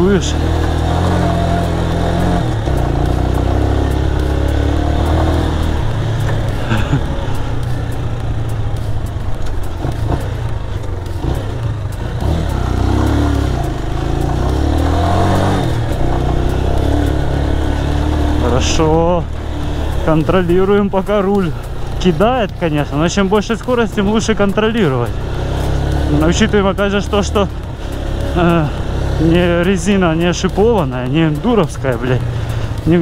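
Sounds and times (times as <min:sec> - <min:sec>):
knocks and clatter: 0:00.0 - 0:33.0
motorcycle engine revving: 0:00.0 - 0:33.0.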